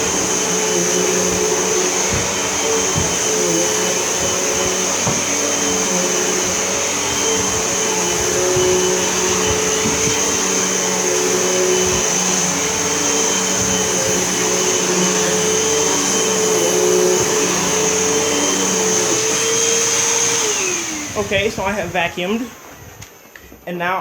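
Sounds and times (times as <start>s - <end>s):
vacuum cleaner running on carpet: 0.0s - 23.2s.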